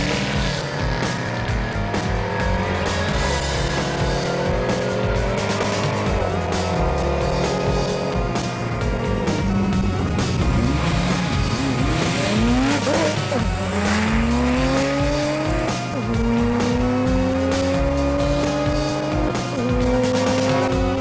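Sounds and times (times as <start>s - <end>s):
background music with a beat: 0.0s - 21.0s
car engine accelerating through gears: 0.0s - 21.0s.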